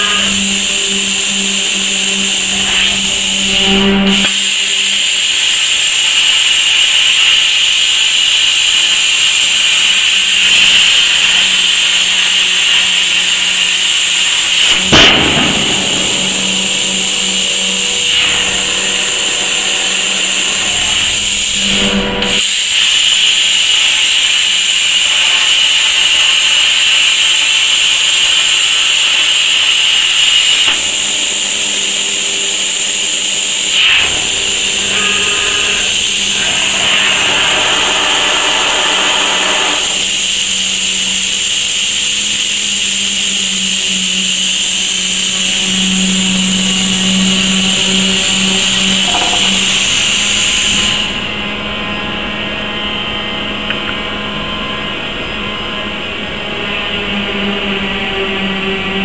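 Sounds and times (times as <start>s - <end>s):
plasma torch high-pitched hiss: 0.0s - 51.5s.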